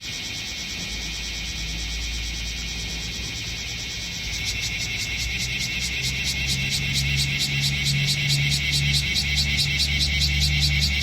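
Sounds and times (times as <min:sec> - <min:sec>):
cicadas buzzing and pulsing: 0:00.0 - 0:11.0.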